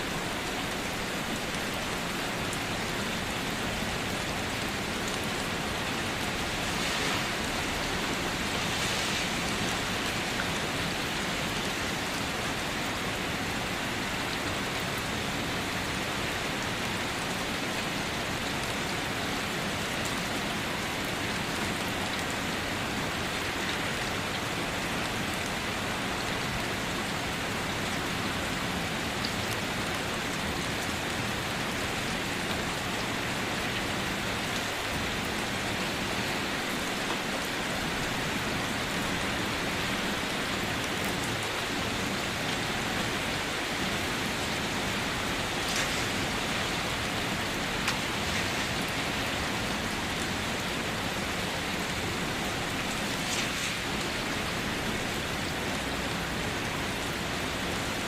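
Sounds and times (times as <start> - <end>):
rain falling on a car: 0.0 - 58.0.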